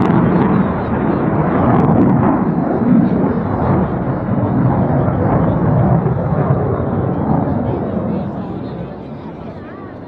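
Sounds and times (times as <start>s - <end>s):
fighter jet passing overhead: 0.0s - 10.0s.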